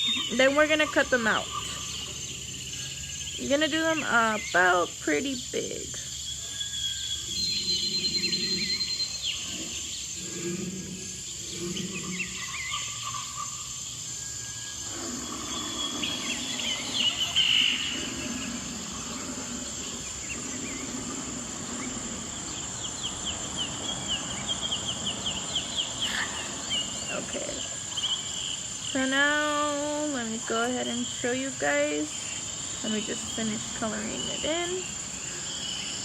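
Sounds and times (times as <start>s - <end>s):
crickets droning: 0.0s - 36.0s.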